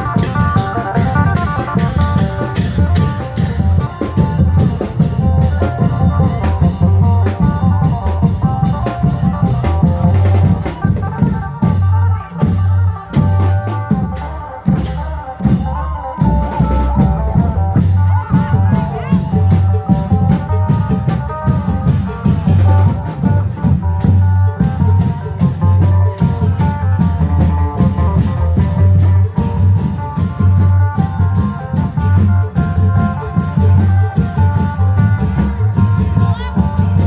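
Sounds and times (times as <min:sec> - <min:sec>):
quick percussion strokes: 0:00.0 - 0:37.0.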